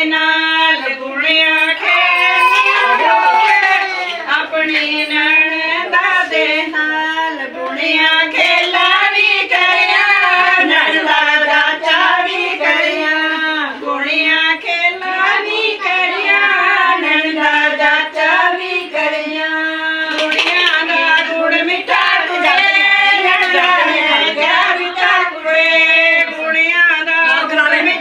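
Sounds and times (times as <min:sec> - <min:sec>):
women singing in high voices: 0:00.0 - 0:28.0.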